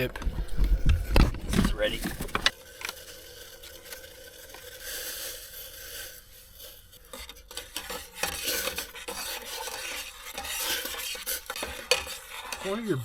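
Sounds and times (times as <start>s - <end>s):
utensil scraping metal pot: 0.0s - 13.0s.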